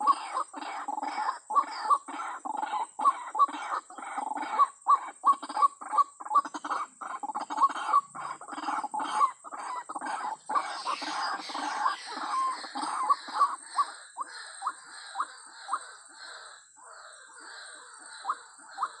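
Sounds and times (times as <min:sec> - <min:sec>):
bird harsh croaking calls: 0:00.0 - 0:19.0.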